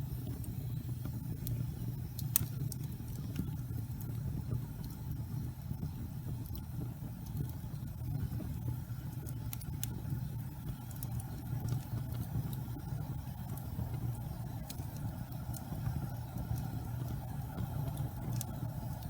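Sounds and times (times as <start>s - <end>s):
burning logs crackling and popping: 0.0s - 19.0s
wood fire low rumble: 0.0s - 19.0s.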